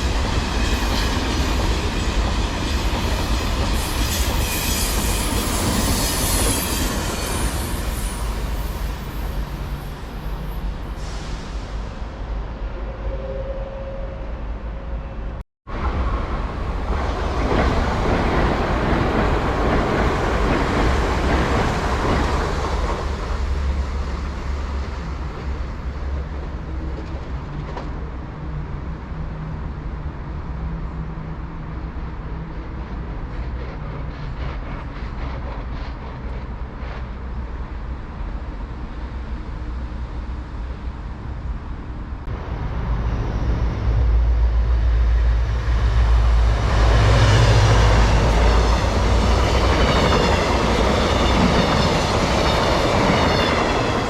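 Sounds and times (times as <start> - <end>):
train wheels on rails: 0.0 - 12.6, 15.8 - 28.6, 32.0 - 40.9, 42.2 - 54.0.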